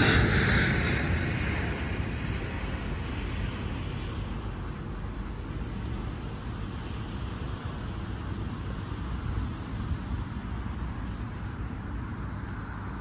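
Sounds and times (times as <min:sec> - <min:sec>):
jet airliner passing overhead: 0:00.0 - 0:13.0
wind rumble on microphone: 0:00.0 - 0:13.0.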